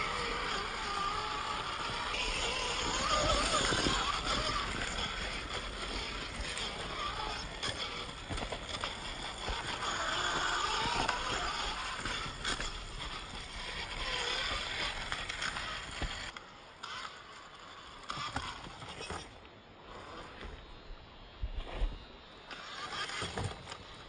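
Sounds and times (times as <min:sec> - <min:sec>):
toy car rolling and scraping: 0:00.0 - 0:20.5, 0:22.5 - 0:24.0.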